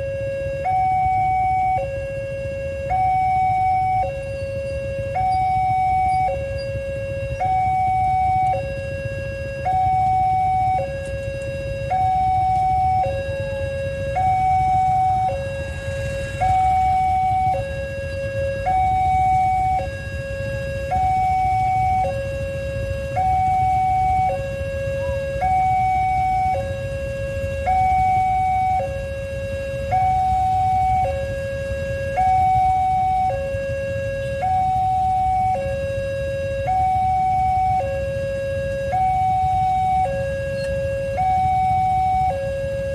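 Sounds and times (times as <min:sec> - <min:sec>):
low rumble of traffic: 0:00.0 - 0:42.9
two-tone crossing alarm: 0:00.0 - 0:42.9.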